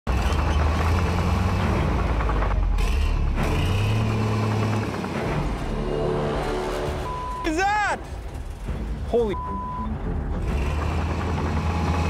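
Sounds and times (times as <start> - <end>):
excavator diesel engine running: 0.1 - 12.0.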